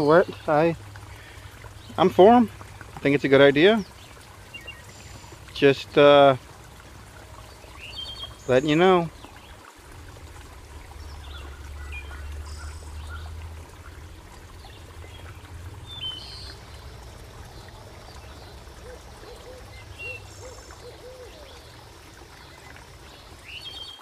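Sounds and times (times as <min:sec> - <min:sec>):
small birds chirping: 0:00.0 - 0:06.3, 0:07.0 - 0:09.7, 0:10.4 - 0:24.0
creek trickling over rocks: 0:00.0 - 0:24.0.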